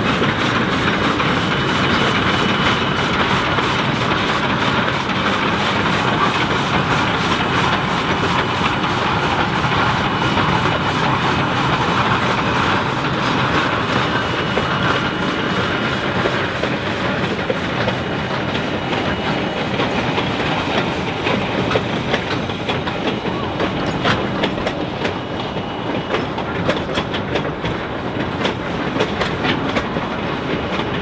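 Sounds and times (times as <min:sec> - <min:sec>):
steam locomotive running past: 0:00.0 - 0:31.0.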